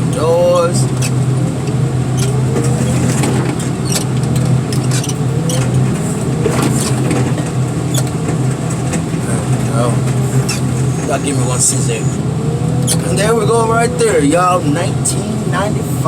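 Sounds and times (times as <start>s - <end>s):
heavy equipment engine running: 0.0s - 16.0s.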